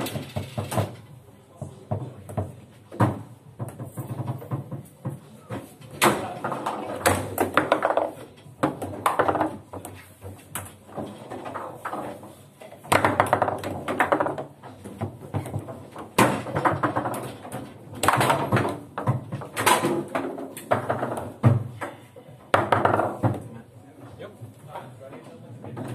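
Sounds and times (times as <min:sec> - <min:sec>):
table football clacks: 0:00.0 - 0:12.3, 0:12.9 - 0:23.5.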